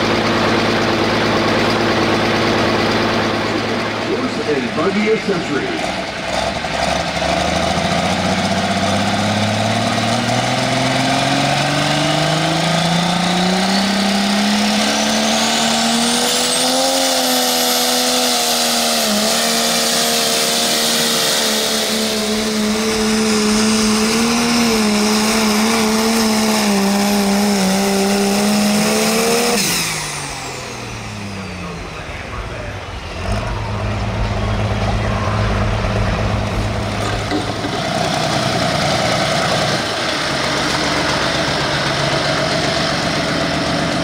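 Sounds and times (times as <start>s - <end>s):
diesel engine at full throttle: 0.0s - 44.0s.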